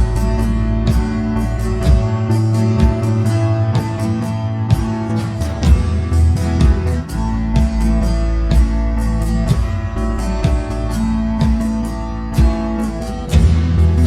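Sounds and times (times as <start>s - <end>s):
strummed guitar with bass and beat: 0.0s - 14.0s.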